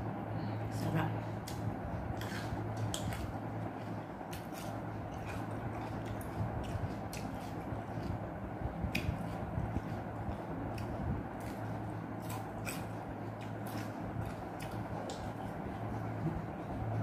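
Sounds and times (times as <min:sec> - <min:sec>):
steady low hum: 0:00.0 - 0:17.0
person chewing food: 0:01.4 - 0:17.0.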